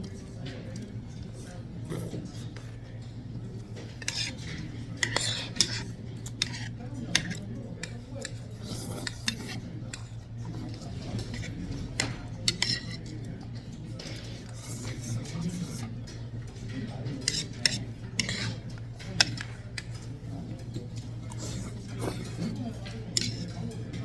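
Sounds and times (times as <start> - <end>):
utensils clinking against bowls: 0.1 - 24.0.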